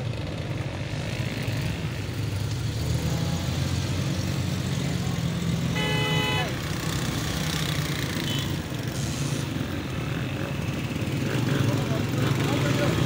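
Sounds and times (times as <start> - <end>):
car engines humming: 0.0 - 13.0.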